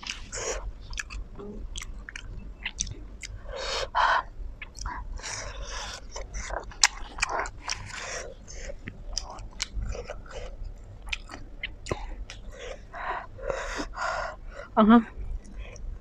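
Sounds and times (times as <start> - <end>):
chewing a hot dog: 0.0 - 14.4.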